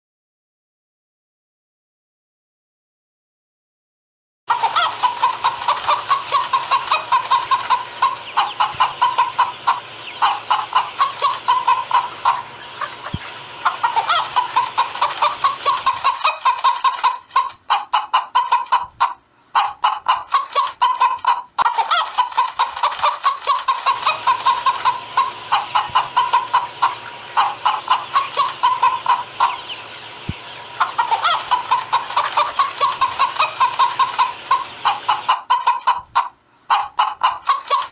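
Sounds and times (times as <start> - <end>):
hens clucking and cackling: 4.5 - 37.9.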